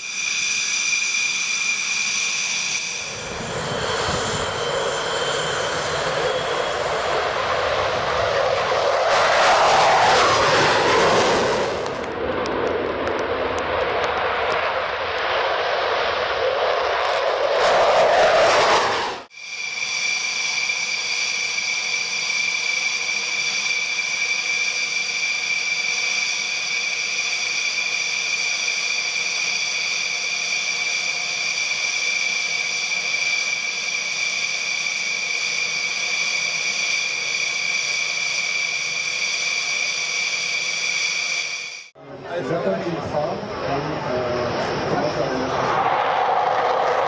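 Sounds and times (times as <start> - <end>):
jet turbine whine: 0.0 - 47.0.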